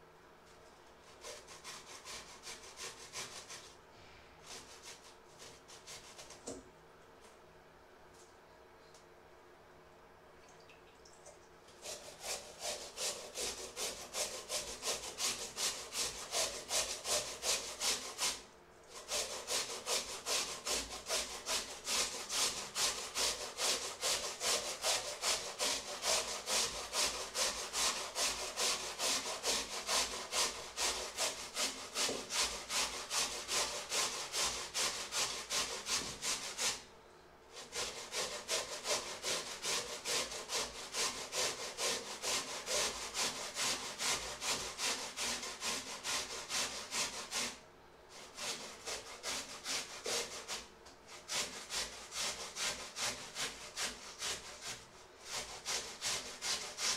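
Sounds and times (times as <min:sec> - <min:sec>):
potatoes grated on metal grater: 0:01.0 - 0:03.7, 0:11.8 - 0:36.8, 0:37.5 - 0:47.6, 0:48.2 - 0:56.9.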